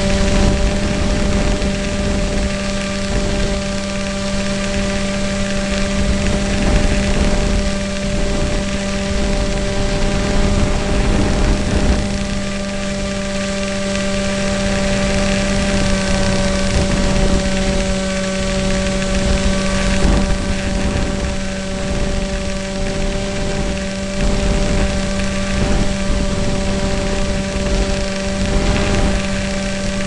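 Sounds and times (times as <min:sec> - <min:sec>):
model plane motor whine: 0:00.0 - 0:30.0
wind rush: 0:00.0 - 0:30.0.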